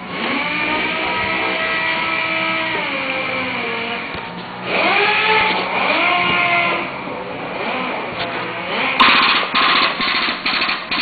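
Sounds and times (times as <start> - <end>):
machine motor whining: 0.0 - 11.0.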